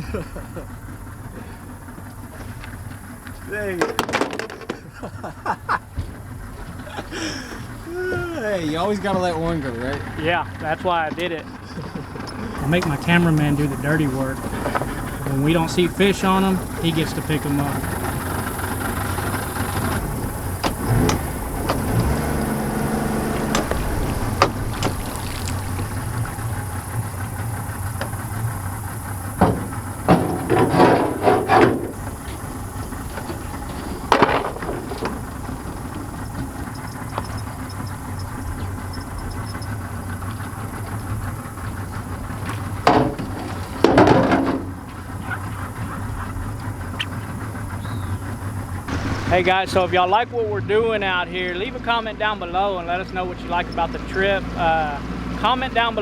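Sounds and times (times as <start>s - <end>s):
boat motor idling: 0.0s - 56.0s
knocks and clatters: 0.6s - 50.0s.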